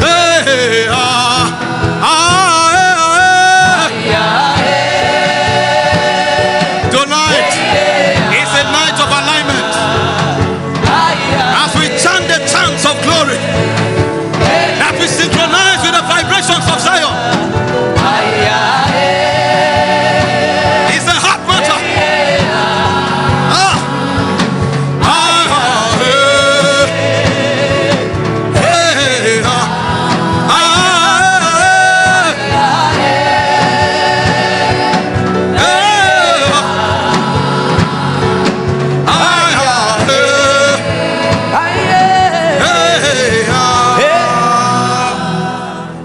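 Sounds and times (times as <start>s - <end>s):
person singing gospel: 0.0s - 46.0s
steady musical accompaniment: 0.0s - 46.0s.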